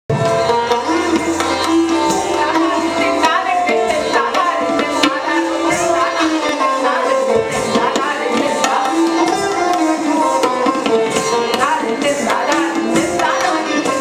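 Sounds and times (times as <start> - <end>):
long-necked string instrument melody: 0.1 - 14.0
tabla strokes: 0.1 - 14.0.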